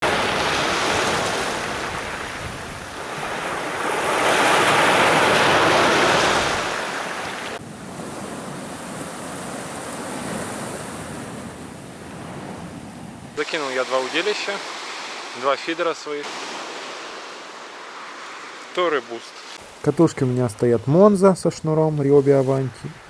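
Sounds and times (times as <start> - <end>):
sea surf washing onto beach: 0.0 - 23.0.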